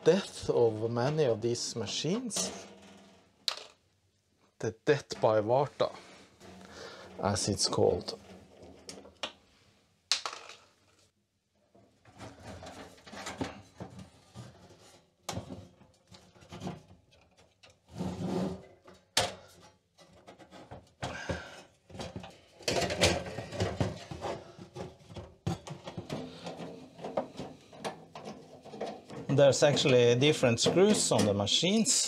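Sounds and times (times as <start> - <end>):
metal cover scraping and knocking: 0.0 - 3.6, 5.1 - 9.2, 12.0 - 31.6.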